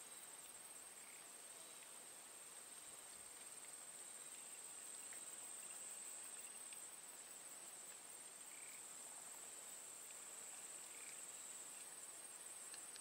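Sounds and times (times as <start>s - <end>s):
insects trilling: 0.0s - 1.9s, 2.6s - 13.0s.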